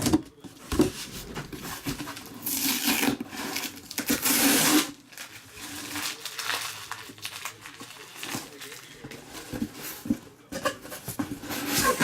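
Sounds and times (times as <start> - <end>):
cardboard packaging rubbing and rasping: 0.6 - 12.0.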